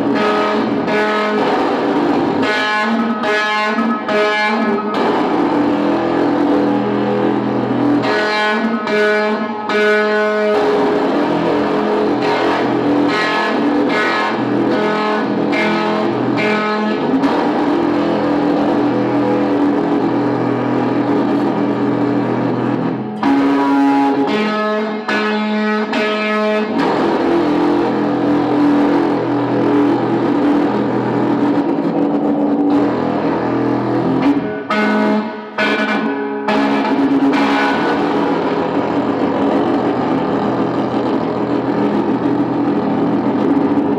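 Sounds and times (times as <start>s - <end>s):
electric guitar feedback drone: 0.0s - 43.9s.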